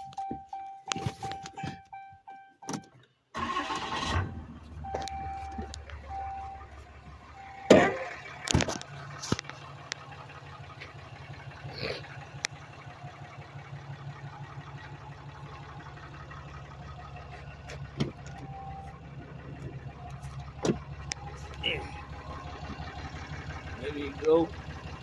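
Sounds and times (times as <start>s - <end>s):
pickup engine idling: 3.4s - 25.0s.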